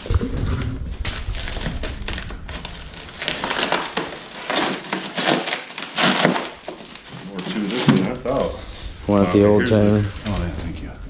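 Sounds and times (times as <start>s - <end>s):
polystyrene foam crunching and squeaking: 0.0s - 10.9s.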